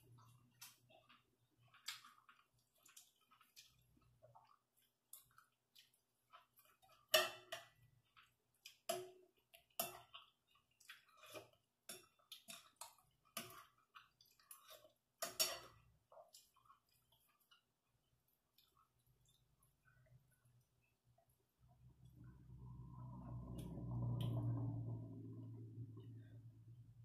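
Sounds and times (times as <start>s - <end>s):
person eating with clicks and smacks: 0.0s - 24.6s.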